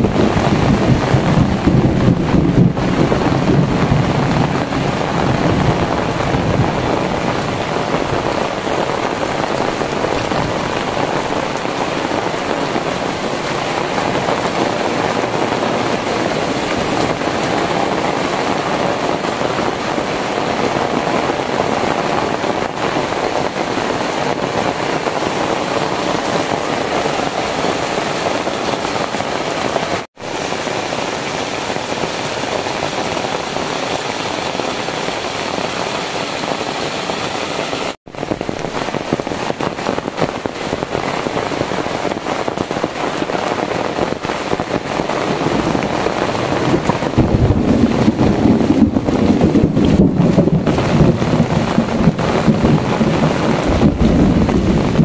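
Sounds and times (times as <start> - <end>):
wind buffeting microphone: 0.0 - 30.0, 32.1 - 55.0
heavy rain pouring: 0.0 - 55.0.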